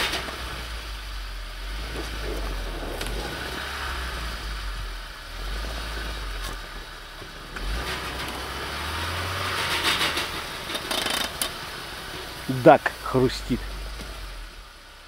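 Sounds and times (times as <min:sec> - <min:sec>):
wheels spinning in snow: 0:00.0 - 0:12.5
car engine pulling under load: 0:00.0 - 0:15.0.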